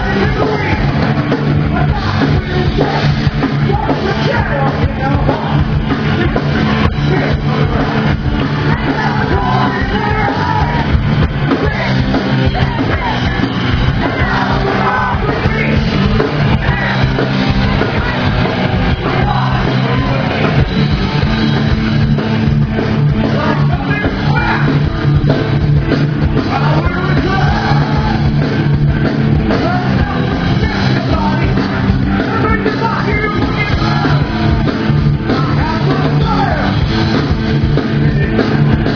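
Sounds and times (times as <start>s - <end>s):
rock song with singing: 0.0s - 38.9s
steady drumbeat: 0.0s - 38.9s.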